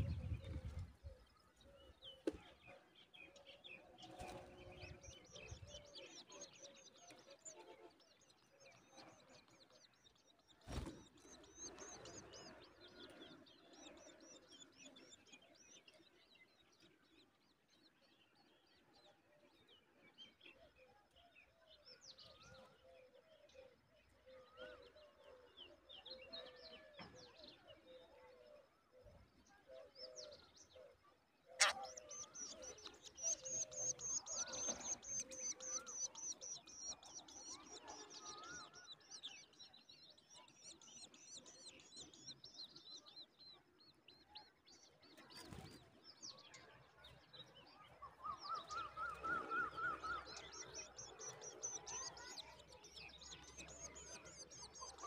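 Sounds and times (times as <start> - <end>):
faint bird chirping: 0.0 - 55.0.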